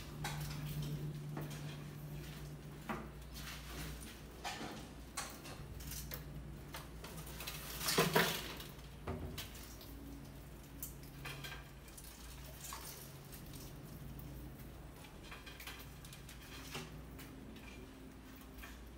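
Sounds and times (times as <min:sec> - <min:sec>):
rats scratching and knocking: 0:00.0 - 0:18.9.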